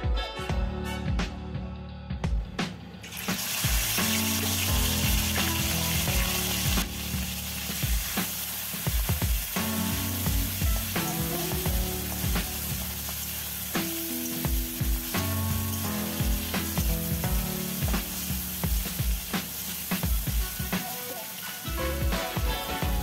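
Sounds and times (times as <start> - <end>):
instrumental music with a beat: 0.0 - 23.0
food sizzling in hot oil: 3.0 - 23.0.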